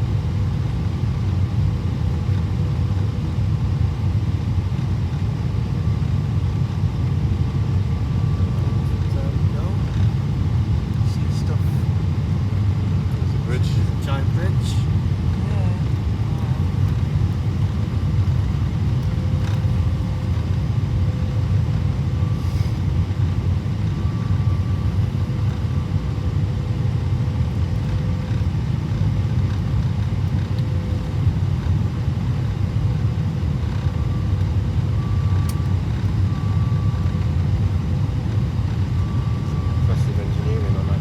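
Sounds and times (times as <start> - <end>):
airliner cabin rumble: 0.0 - 41.0.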